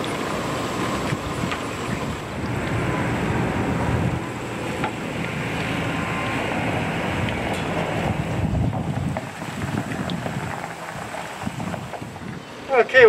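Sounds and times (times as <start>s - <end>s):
wind buffeting microphone: 0.0s - 12.7s
road traffic noise: 0.0s - 13.0s.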